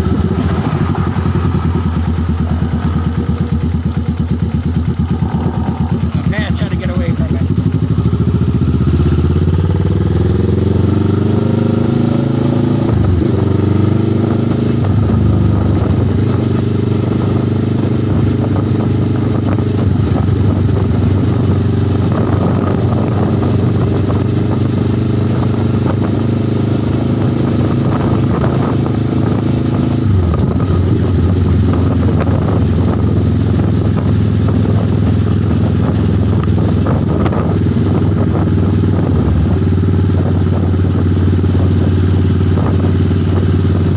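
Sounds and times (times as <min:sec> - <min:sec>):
motorcycle engine pulling away: 0:00.0 - 0:43.9.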